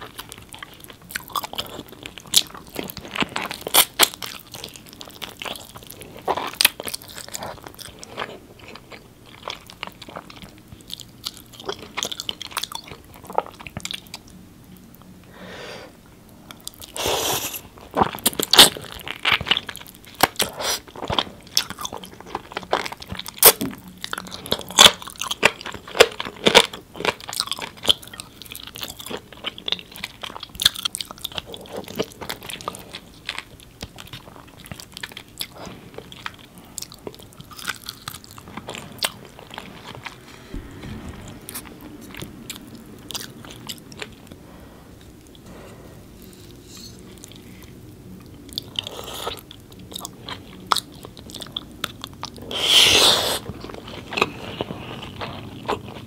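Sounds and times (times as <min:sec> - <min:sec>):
person chewing food: 0:00.0 - 0:15.1, 0:16.3 - 0:56.0.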